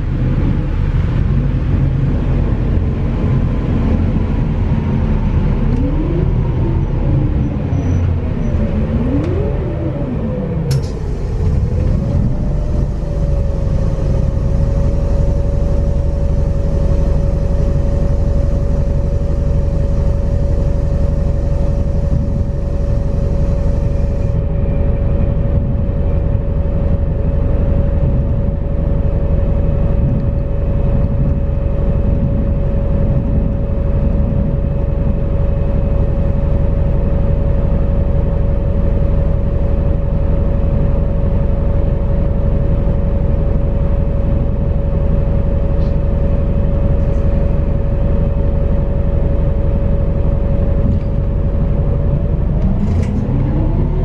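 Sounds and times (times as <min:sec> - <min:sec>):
bus drivetrain rumble: 0:00.0 - 0:54.0
rising tones of accelerating bus: 0:00.0 - 0:54.0
steady whine: 0:00.0 - 0:54.0.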